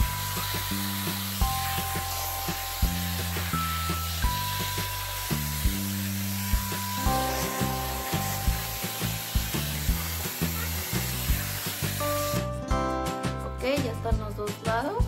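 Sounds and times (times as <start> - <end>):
air styler hissing: 0.0 - 12.4
background music with beat: 0.0 - 15.0.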